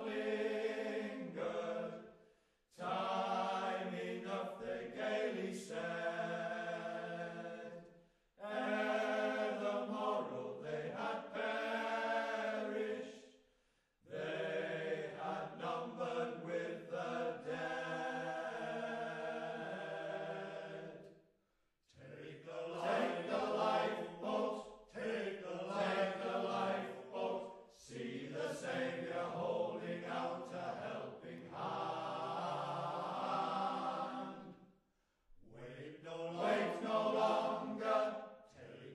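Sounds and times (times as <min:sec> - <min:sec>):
male voice choir singing: 0:00.0 - 0:02.0, 0:02.8 - 0:07.8, 0:08.4 - 0:13.2, 0:14.1 - 0:21.0, 0:22.0 - 0:34.5, 0:35.5 - 0:38.9.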